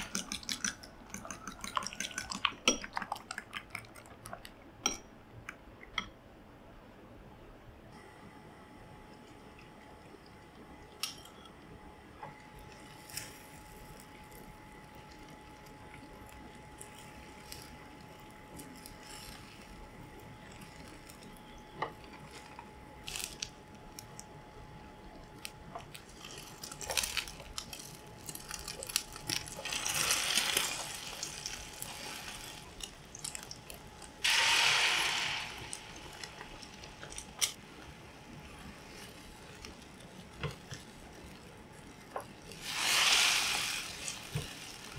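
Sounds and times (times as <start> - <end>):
light sizzling: 7.9 - 44.9.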